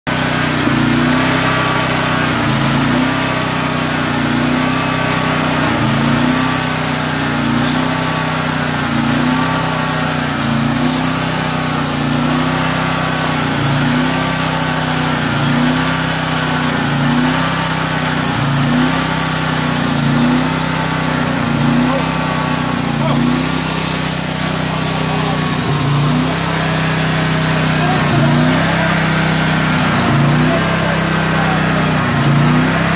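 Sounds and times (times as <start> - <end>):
sawmill engine running: 0.1 - 32.9.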